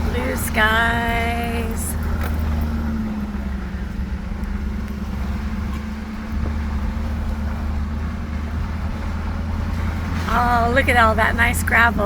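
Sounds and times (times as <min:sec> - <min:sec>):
car engine and tyres on gravel: 0:00.0 - 0:12.0.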